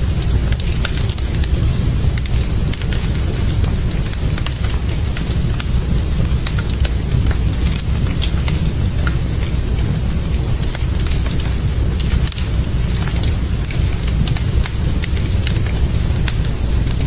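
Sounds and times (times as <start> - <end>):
fire crackling in a fireplace: 0.0 - 17.0.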